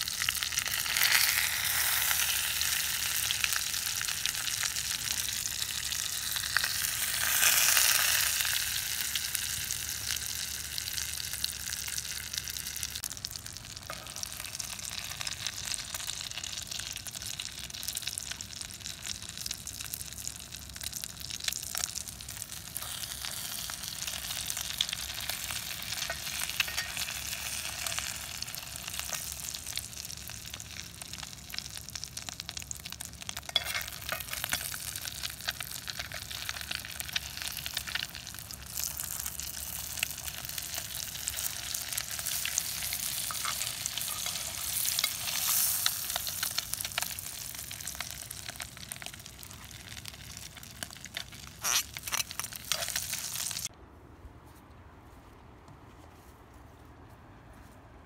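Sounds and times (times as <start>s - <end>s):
eggs frying in hot oil: 0.0s - 53.7s.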